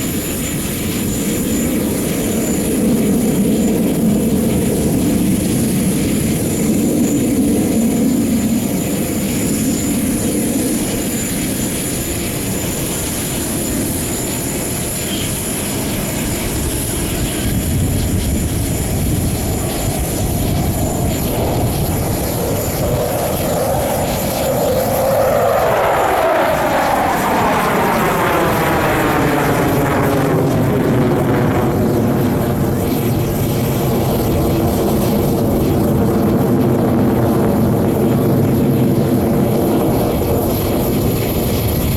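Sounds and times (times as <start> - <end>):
jet fighters flying: 0.0 - 41.9
jets passing by: 0.0 - 41.9.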